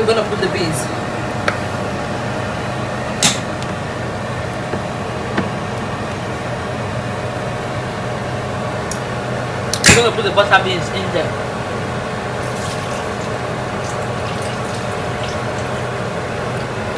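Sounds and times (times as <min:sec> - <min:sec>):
kitchen appliance hum: 0:00.0 - 0:16.9.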